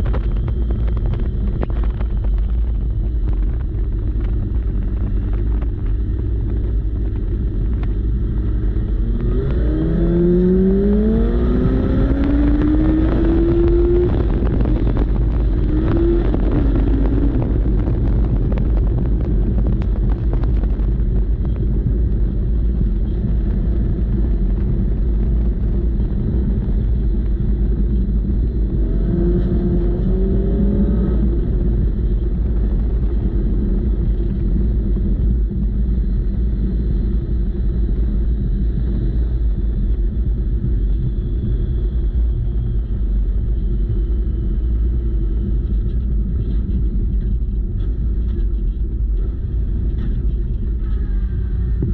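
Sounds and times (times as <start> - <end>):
buggy engine low rumble: 0.0 - 51.9.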